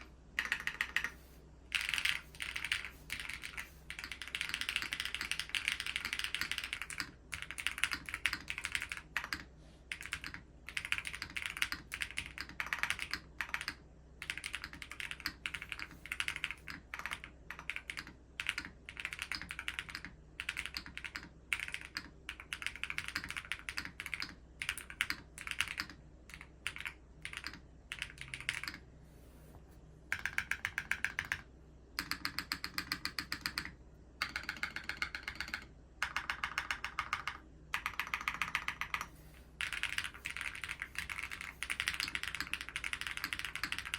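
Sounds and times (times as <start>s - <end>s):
rapid keyboard keystrokes: 0.4s - 28.8s, 30.1s - 43.9s.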